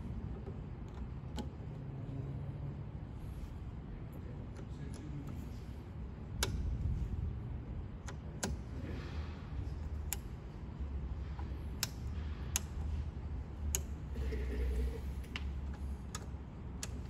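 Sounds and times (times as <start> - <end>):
low steady rumble: 0.0 - 17.0
rotary switch clicks: 0.2 - 1.8, 4.4 - 17.0.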